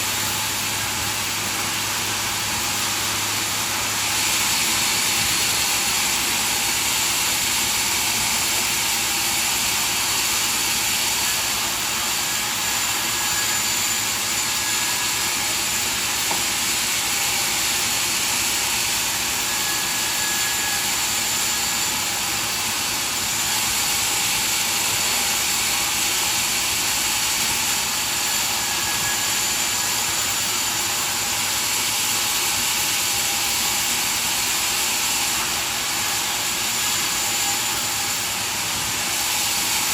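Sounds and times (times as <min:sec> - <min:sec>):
sawmill machinery roar: 0:00.0 - 0:39.9.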